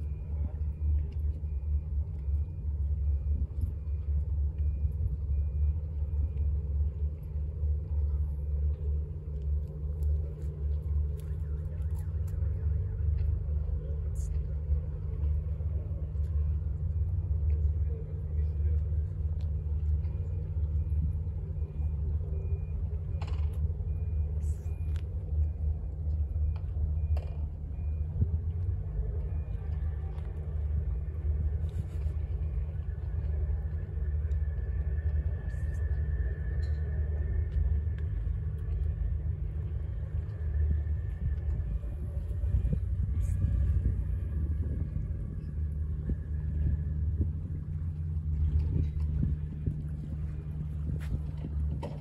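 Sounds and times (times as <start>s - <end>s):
fluttering low rumble: 0.0s - 52.0s.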